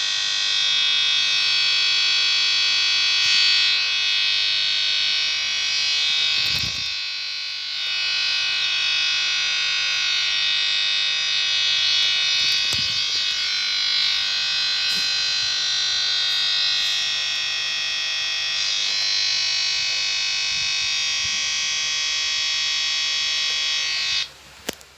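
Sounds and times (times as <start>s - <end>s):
harsh electronic buzz: 0.0s - 24.4s.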